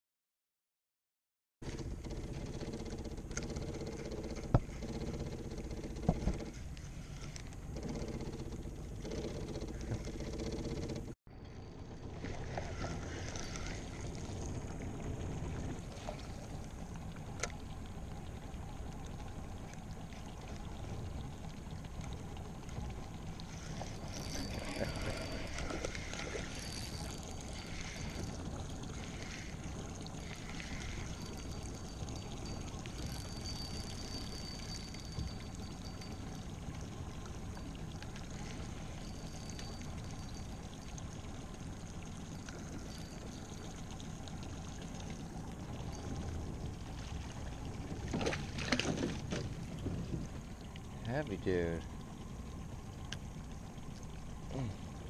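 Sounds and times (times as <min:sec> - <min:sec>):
water lapping against boat hull: 0:01.6 - 0:11.2, 0:12.0 - 0:55.0.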